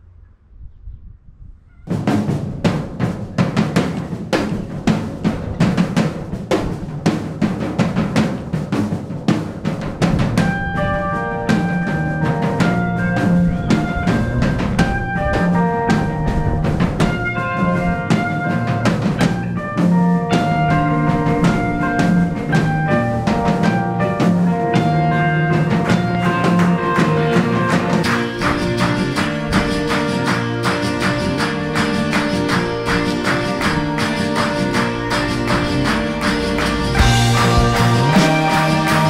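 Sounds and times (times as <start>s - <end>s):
drum kit beat: 1.9s - 39.0s
guitar: 1.9s - 39.0s.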